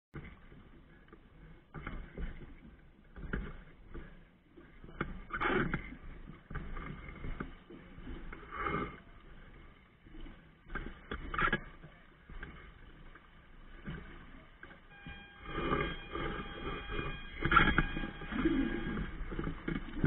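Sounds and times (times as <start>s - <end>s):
wind: 0.1s - 20.0s
water splashing against boat: 0.2s - 20.0s.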